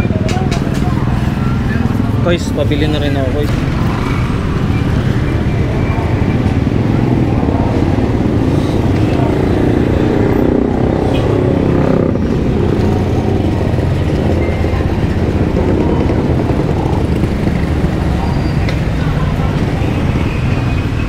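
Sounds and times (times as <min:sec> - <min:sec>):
engine running close by: 0:00.0 - 0:21.0
street traffic noise: 0:00.0 - 0:21.0.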